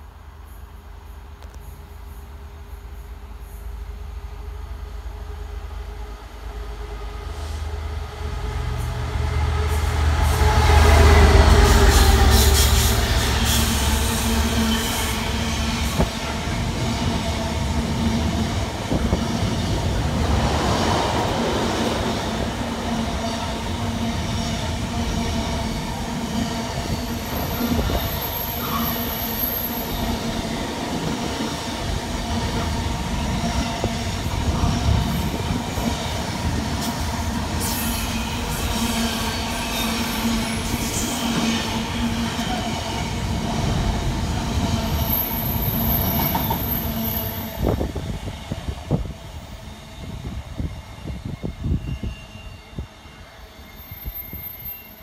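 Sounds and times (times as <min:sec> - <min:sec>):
train wheels rumbling: 0:00.0 - 0:52.2
freight locomotive passing: 0:00.0 - 0:55.0.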